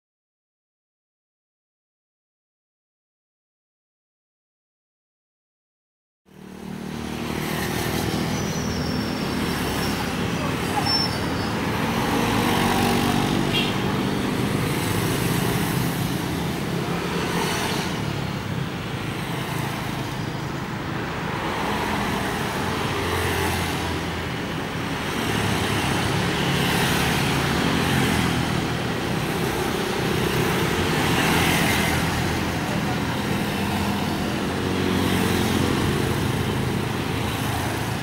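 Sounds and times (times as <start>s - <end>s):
road traffic passing by: 6.3s - 38.0s.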